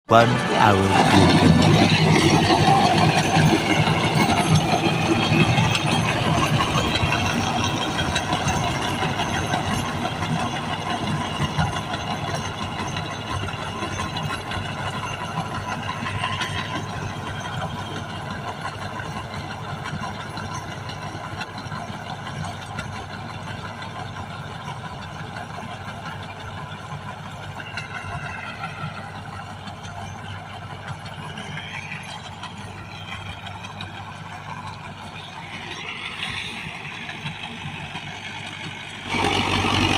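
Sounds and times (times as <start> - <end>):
tractor diesel engine running: 0.1 - 39.9.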